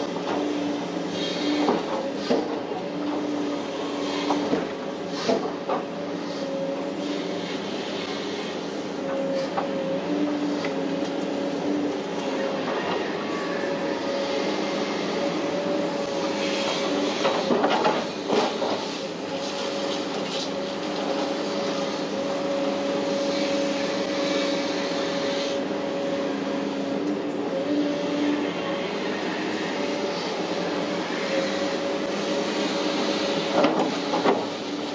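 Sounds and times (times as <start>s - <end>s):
excavator engine and hydraulics: 0.0s - 34.9s.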